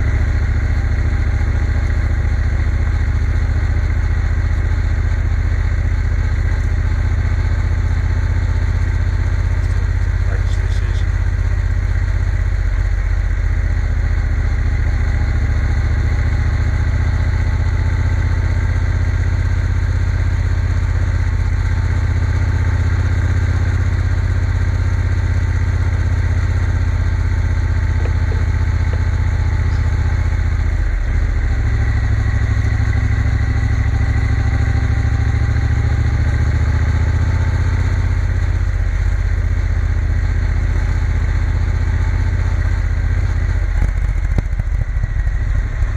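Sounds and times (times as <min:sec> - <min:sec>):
motorcycle engine rumbling: 0:00.0 - 0:45.9.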